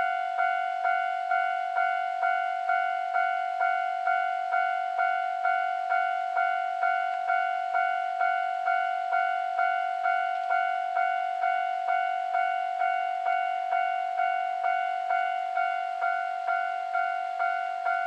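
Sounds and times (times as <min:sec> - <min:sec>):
level crossing warning bell ringing: 0:00.0 - 0:18.0.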